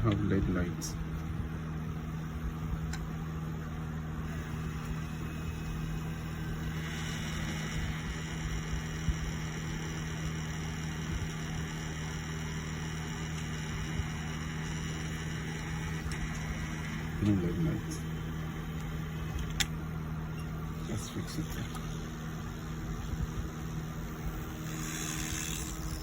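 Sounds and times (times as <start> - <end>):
electrical hum: 0.0 - 26.0
high whine: 0.0 - 26.0.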